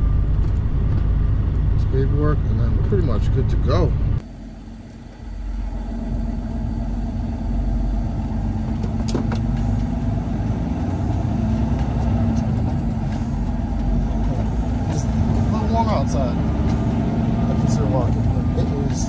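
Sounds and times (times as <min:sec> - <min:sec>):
truck diesel engine from cab: 0:00.0 - 0:19.0.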